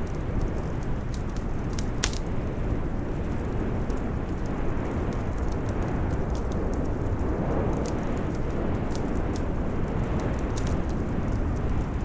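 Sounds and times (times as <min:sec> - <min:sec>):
storm wind blowing: 0:00.0 - 0:12.0
wood fire crackling: 0:00.0 - 0:12.0.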